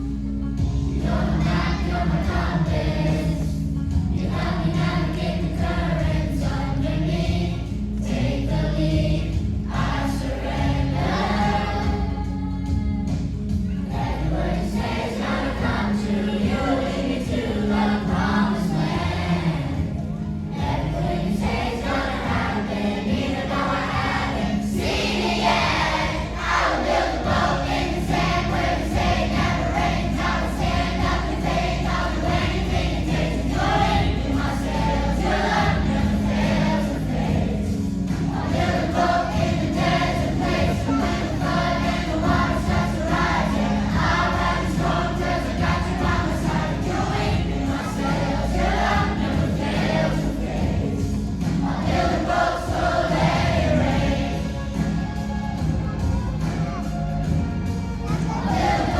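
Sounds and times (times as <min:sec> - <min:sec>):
children's choir singing: 0:00.0 - 0:58.9
musical accompaniment: 0:00.0 - 0:58.9.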